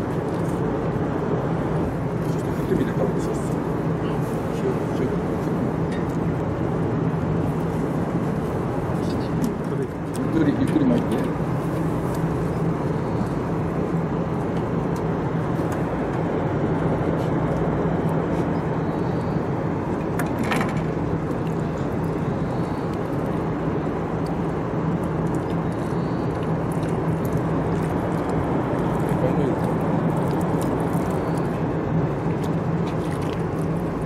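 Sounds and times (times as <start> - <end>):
constant low hum: 0.0 - 34.0
outdoor background rumble: 0.0 - 34.0.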